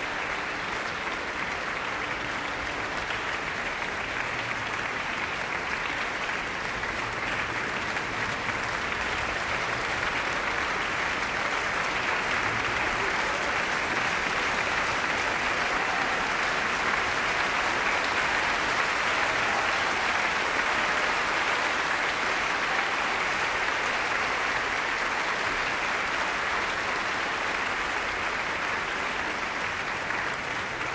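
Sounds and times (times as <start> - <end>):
audience applauding: 0.0 - 30.9.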